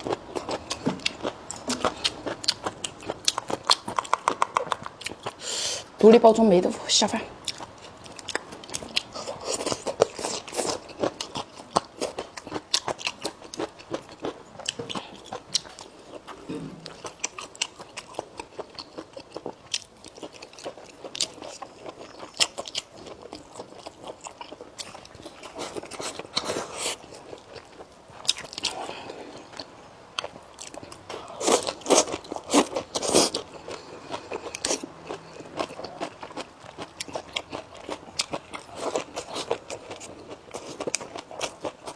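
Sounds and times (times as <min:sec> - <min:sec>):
person chewing crunchy food: 0:00.0 - 0:05.9, 0:07.4 - 0:41.9.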